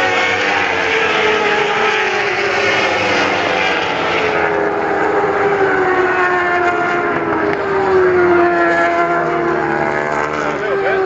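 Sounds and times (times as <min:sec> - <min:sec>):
racing motorcycles high-revving: 0:00.0 - 0:11.0.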